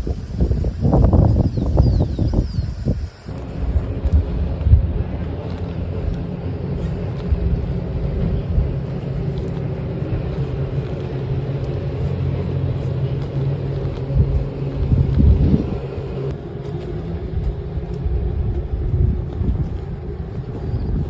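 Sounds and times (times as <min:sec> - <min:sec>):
low rumbling engine drone: 0:00.0 - 0:21.0.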